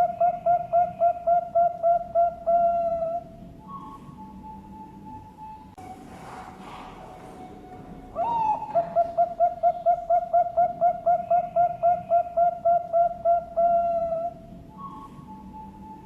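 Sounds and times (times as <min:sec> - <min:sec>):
dove cooing: 0:00.0 - 0:05.5, 0:06.2 - 0:16.0.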